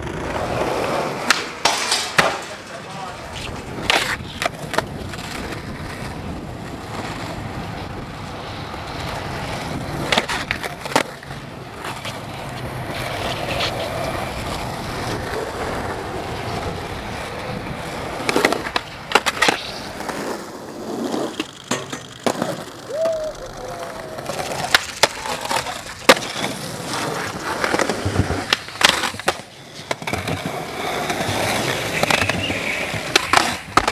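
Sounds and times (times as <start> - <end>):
skateboard pops and clacks: 0.0 - 7.5, 9.0 - 16.0, 18.1 - 20.4, 21.0 - 23.2, 24.2 - 33.9
skateboard wheels rolling on concrete: 0.0 - 33.9.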